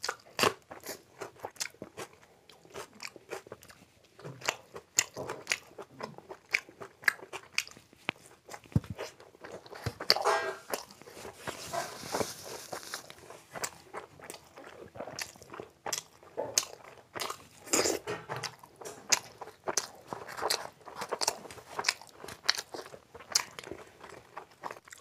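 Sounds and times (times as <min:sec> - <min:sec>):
crunching and chewing: 0:00.0 - 0:25.0.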